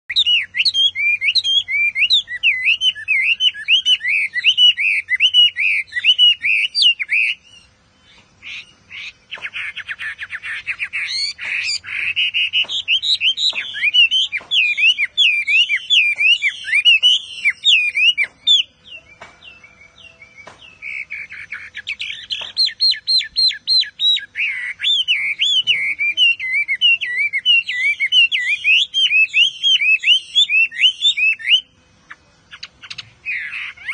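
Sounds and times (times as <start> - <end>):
bird singing whistled notes: 0.1 - 33.9.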